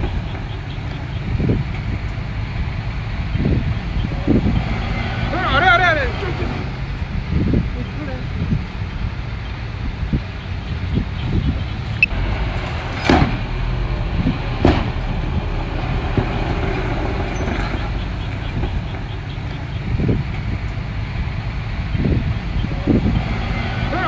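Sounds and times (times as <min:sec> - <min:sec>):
bulldozer diesel engine under load: 0:00.0 - 0:24.0.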